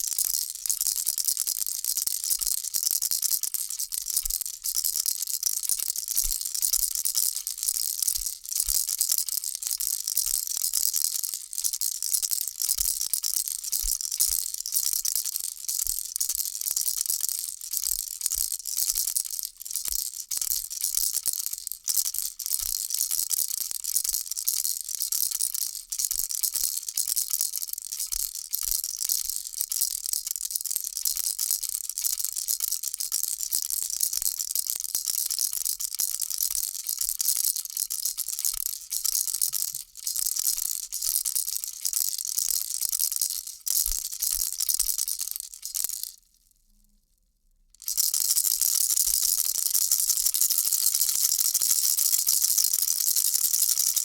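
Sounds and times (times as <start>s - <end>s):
baby rattle shaking: 0.0s - 46.2s, 47.8s - 54.0s.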